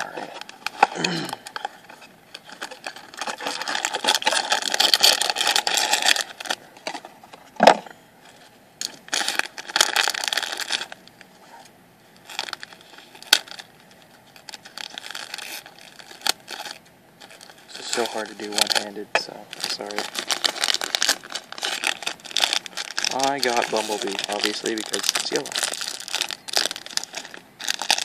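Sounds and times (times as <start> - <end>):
foil pouch crinkling: 0.0 - 7.1, 8.3 - 11.3, 12.2 - 28.0.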